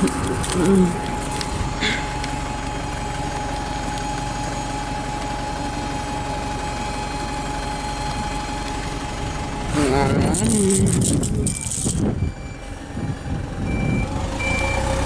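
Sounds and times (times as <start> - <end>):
bus engines idling: 0.0 - 15.0.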